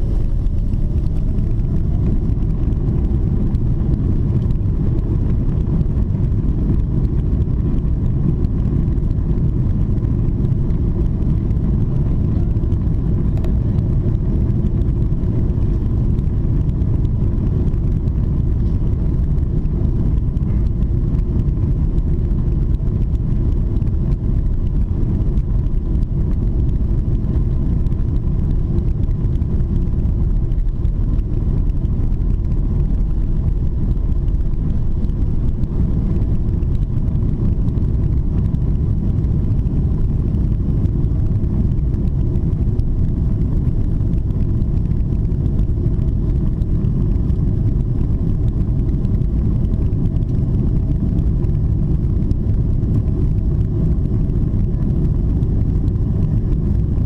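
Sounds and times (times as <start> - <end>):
jet engines at takeoff thrust: 0.0 - 57.0
wheels rolling on runway: 0.0 - 57.0.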